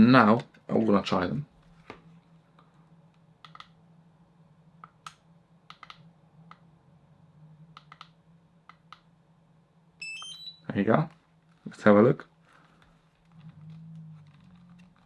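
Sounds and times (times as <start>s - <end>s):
low hum: 0.0s - 10.1s, 12.3s - 15.0s.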